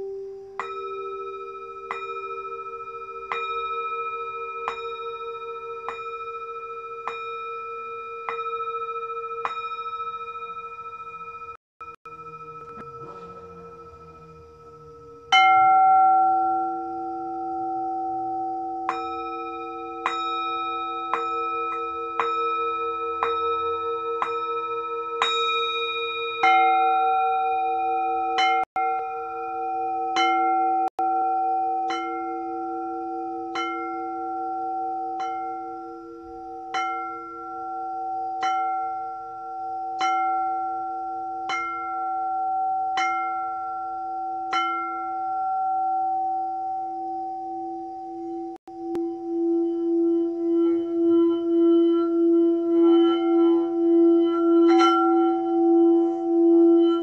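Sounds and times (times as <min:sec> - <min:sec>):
singing bowls struck and ringing: 0:00.0 - 0:57.0.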